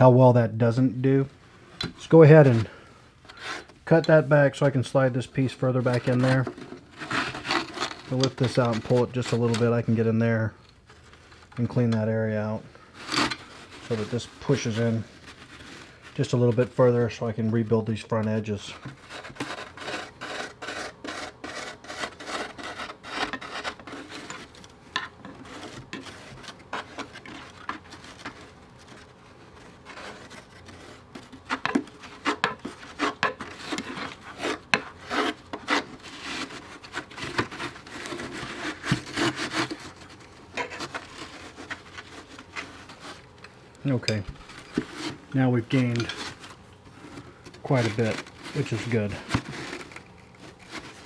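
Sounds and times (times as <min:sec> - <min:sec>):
hand tool scraping refractory: 0:01.0 - 0:10.4, 0:11.6 - 0:51.0.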